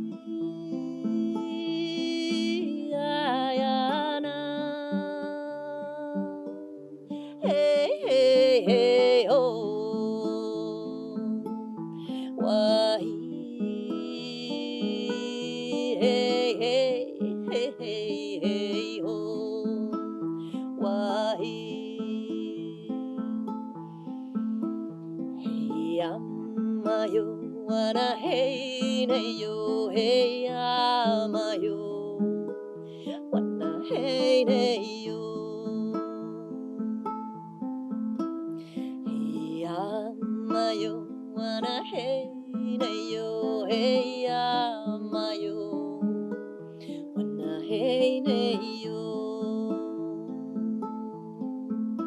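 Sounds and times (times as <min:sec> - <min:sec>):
woman singing: 0:00.0 - 0:24.7, 0:25.4 - 0:37.4, 0:38.6 - 0:51.8
picked acoustic guitar: 0:00.0 - 0:52.0.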